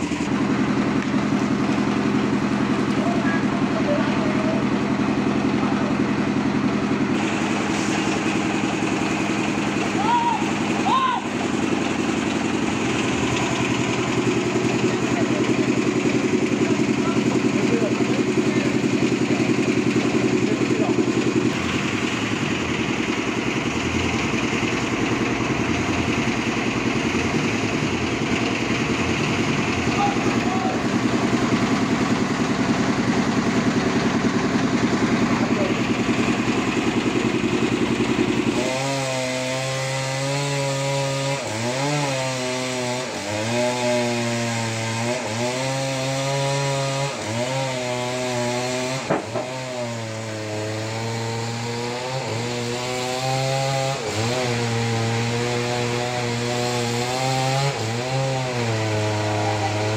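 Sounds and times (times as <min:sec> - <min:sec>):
chainsaw cutting wood: 0:00.0 - 0:59.9
engine throbbing: 0:00.0 - 0:59.9.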